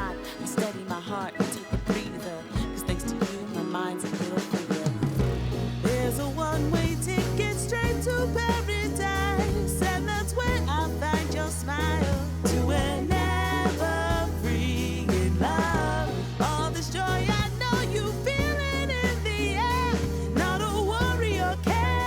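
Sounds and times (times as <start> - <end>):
bass and drums: 0.0 - 0.8, 1.4 - 22.0
person singing with vibrato: 0.0 - 22.0.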